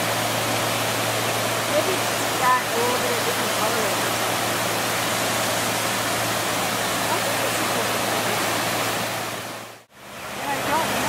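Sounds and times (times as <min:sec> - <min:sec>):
surf rushing on beach: 0:00.0 - 0:11.0.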